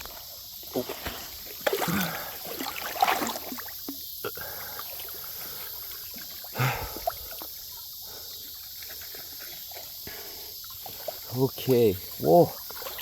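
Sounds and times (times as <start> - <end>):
creek water trickling: 0.0 - 13.0.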